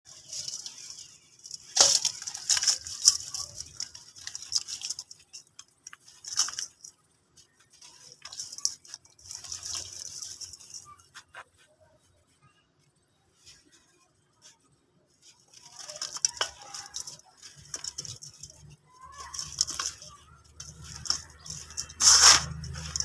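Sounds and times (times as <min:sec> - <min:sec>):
brittle ash crackling and crunching: 0:00.0 - 0:23.0.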